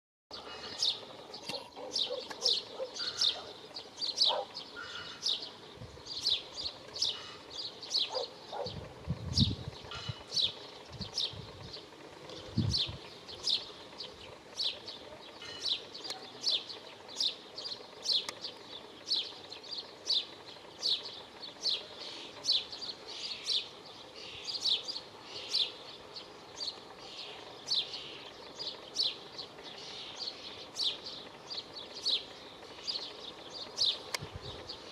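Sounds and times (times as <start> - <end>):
small bird chirping: 0.4 - 34.9.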